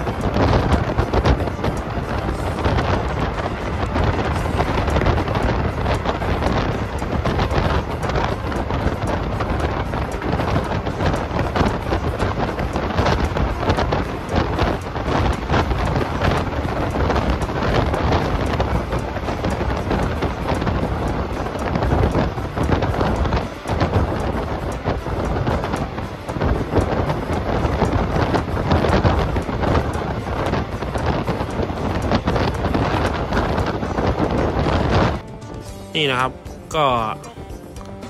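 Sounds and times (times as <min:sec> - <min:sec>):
train wheels rumbling with rattles: 0:00.0 - 0:35.2
wind rushing: 0:00.0 - 0:37.0.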